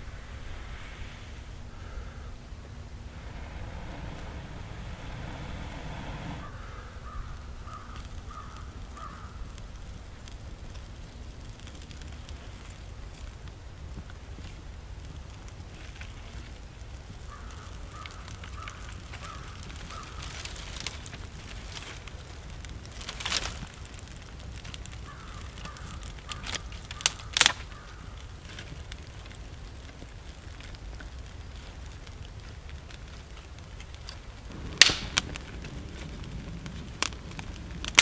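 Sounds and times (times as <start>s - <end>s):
campfire crackling: 0.0s - 38.0s.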